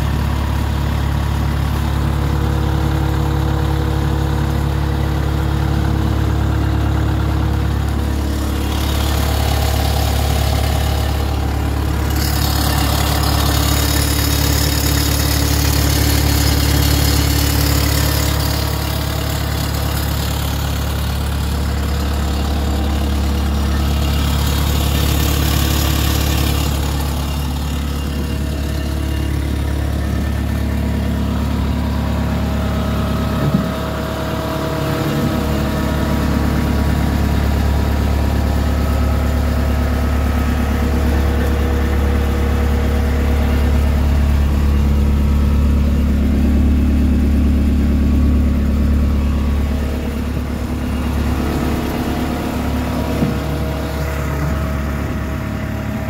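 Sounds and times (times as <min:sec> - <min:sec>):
skid steer engine idling: 0:00.0 - 0:56.0.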